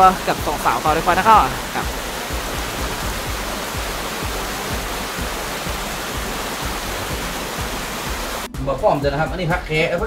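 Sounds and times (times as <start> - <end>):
stream rushing over stones: 0.0 - 8.5.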